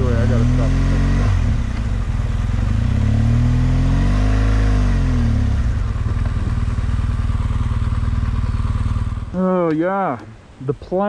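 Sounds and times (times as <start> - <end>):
motorcycle engine idling: 0.0 - 3.6, 4.5 - 10.4.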